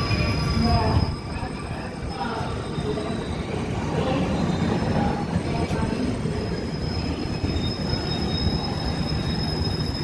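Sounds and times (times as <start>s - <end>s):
faint high wheel squeal: 0.0s - 10.0s.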